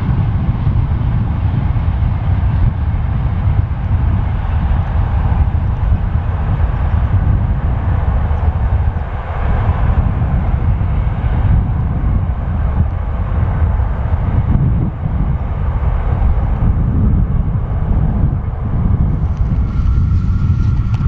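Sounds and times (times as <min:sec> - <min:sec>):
train rumbling past: 0:00.0 - 0:21.0.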